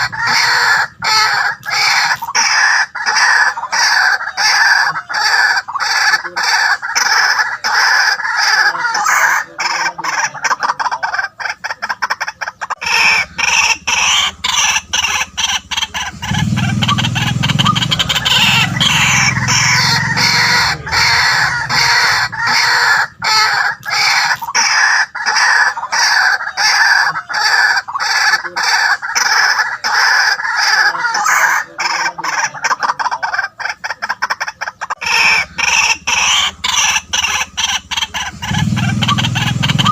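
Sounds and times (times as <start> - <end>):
waterhens calling harshly: 0.0 - 39.9.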